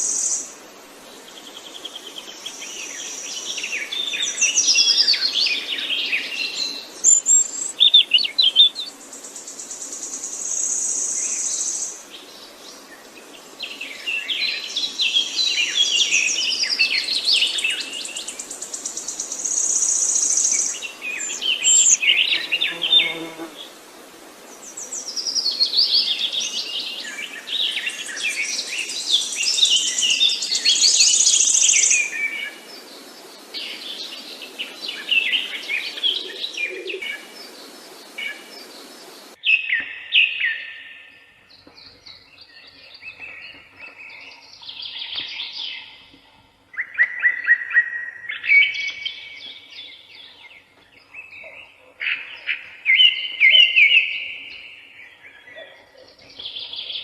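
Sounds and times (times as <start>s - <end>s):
songbirds chirping and singing: 1.4s - 23.5s, 24.5s - 57.0s.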